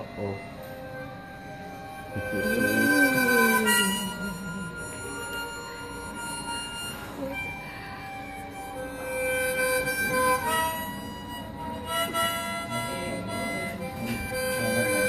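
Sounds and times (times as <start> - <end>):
slow reedy chords: 0.0 - 15.0.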